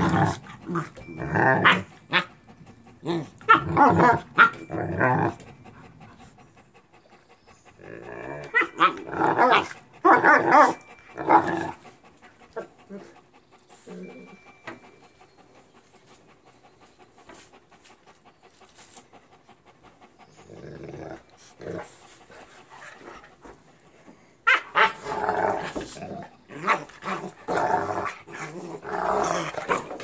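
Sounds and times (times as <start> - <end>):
dog panting: 0.0 - 24.4
dogs growling and yapping: 0.0 - 30.0.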